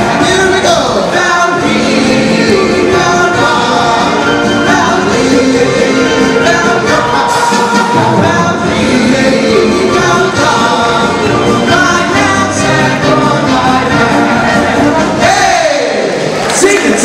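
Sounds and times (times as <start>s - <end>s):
group singing stage song: 0.0s - 16.4s
musical accompaniment: 0.0s - 17.0s.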